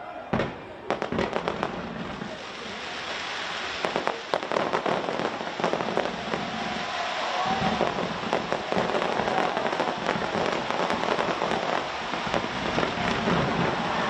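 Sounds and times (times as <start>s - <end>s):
fireworks crackling and popping: 0.4s - 14.0s
steady hiss: 2.2s - 13.5s.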